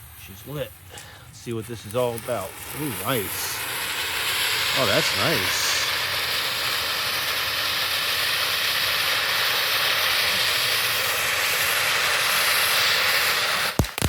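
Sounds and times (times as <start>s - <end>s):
fountain firework hissing: 0.0s - 14.0s.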